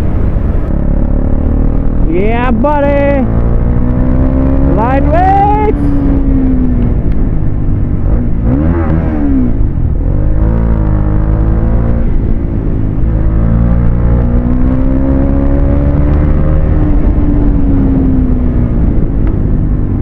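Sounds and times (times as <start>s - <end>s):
motorcycle engine running: 0.0s - 20.0s
wind noise: 0.0s - 20.0s.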